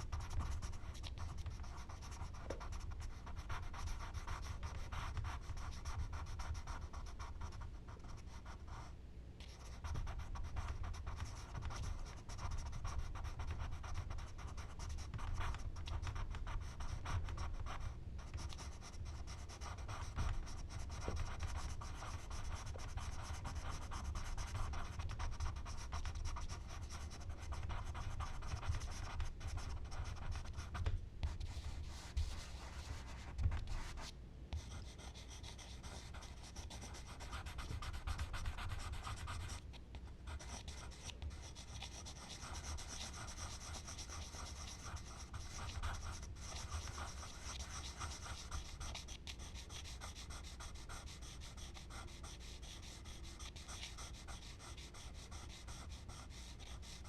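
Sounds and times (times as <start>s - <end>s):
charcoal scratching on paper: 9.6s - 39.6s, 40.3s - 57.0s.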